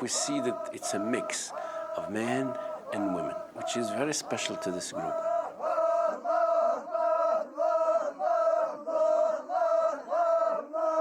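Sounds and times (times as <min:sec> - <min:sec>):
group chanting in unison: 0:00.0 - 0:11.0.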